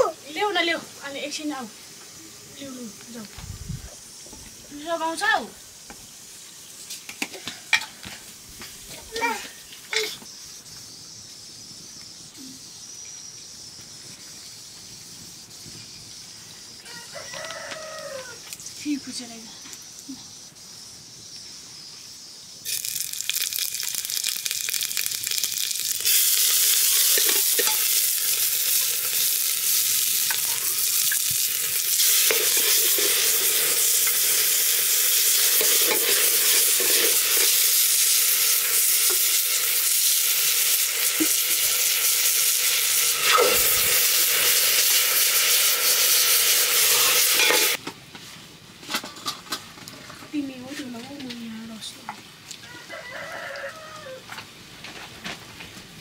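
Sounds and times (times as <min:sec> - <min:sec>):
food sizzling in a pot: 0:00.0 - 0:47.9.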